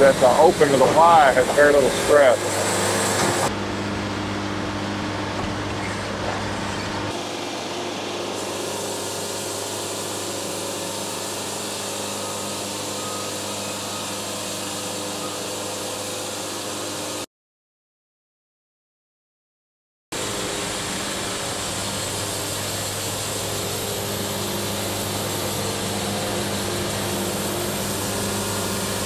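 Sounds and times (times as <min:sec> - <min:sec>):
bandsaw sawmill cutting log: 0:00.0 - 0:03.6, 0:05.6 - 0:17.3, 0:20.2 - 0:29.0.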